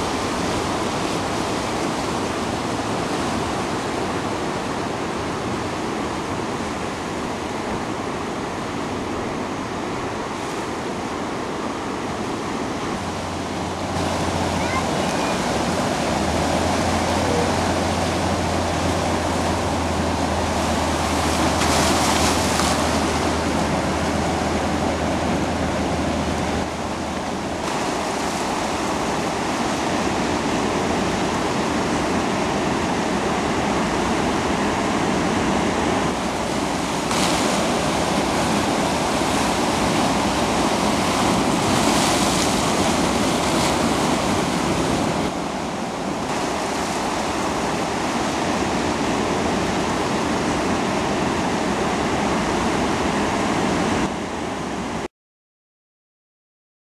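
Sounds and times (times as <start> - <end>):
ocean waves breaking: 0.0 - 55.1.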